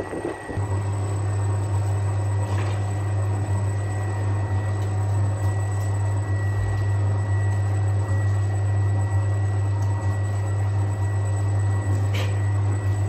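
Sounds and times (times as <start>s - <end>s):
dough mixer motor humming: 0.0s - 13.0s.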